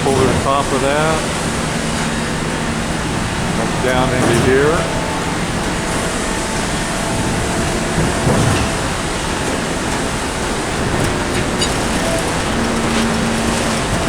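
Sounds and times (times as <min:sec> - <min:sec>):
factory machinery running: 0:00.0 - 0:14.0.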